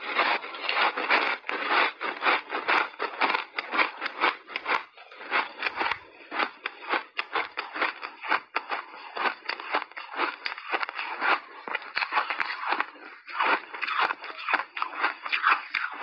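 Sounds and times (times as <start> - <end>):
ice being chewed crunching: 0.0 - 16.0.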